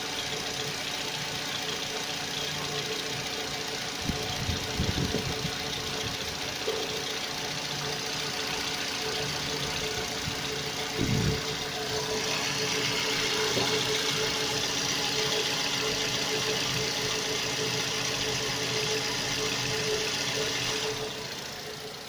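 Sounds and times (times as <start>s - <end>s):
car engine idling: 0.0s - 22.0s
steady tone from engine: 0.0s - 22.0s.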